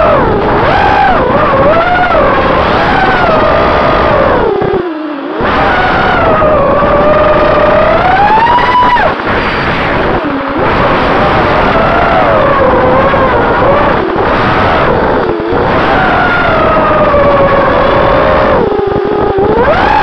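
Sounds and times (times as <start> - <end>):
air rush: 0.0 - 20.0
quadcopter motors whining: 0.0 - 20.0.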